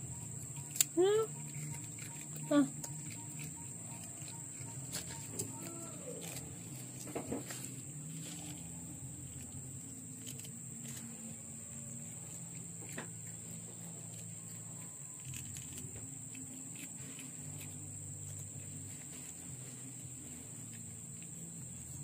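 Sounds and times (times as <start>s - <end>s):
insects chirring: 0.0s - 22.0s
low steady hum: 0.0s - 22.0s.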